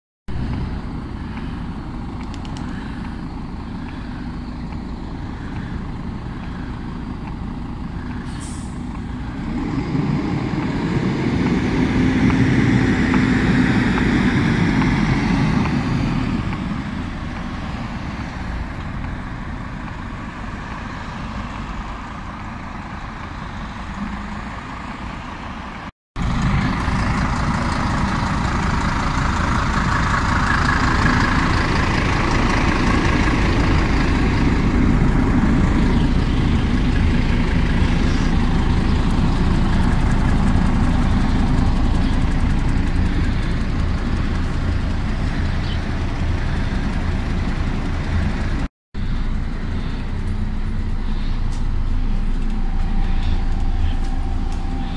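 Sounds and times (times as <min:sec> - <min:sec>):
bus diesel engine passing: 0:00.3 - 0:54.9
bus engine idling: 0:00.3 - 0:54.9.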